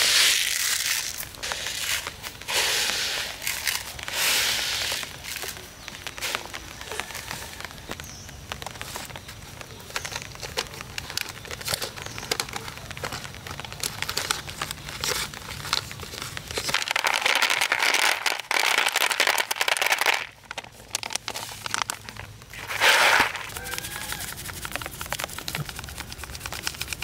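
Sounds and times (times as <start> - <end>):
crackling and rustling with clicks: 0.2 - 27.0.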